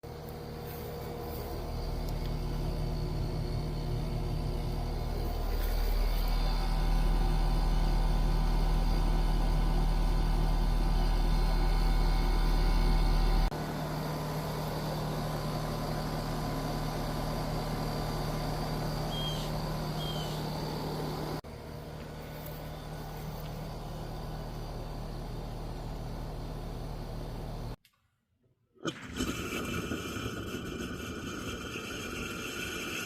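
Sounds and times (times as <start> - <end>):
machinery humming: 0.1 - 27.8.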